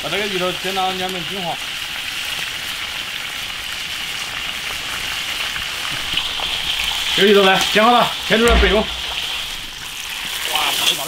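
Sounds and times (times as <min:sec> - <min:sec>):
oil sizzling in a wok: 0:00.0 - 0:08.3, 0:09.8 - 0:11.0.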